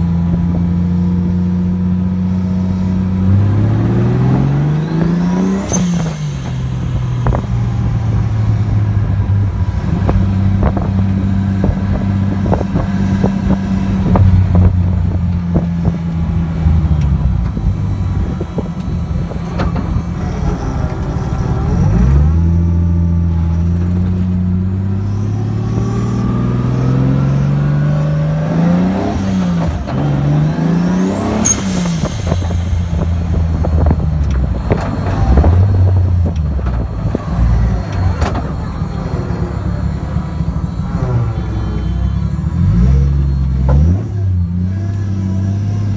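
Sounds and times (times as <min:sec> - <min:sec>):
car engine revving from cabin: 0:00.0 - 0:45.9.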